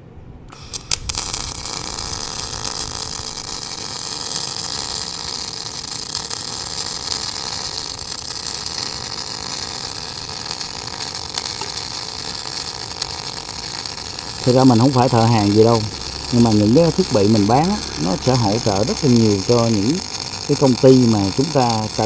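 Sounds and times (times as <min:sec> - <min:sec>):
arc striking cracks: 0:00.5 - 0:22.0
welding arc crackling hiss: 0:00.5 - 0:22.0.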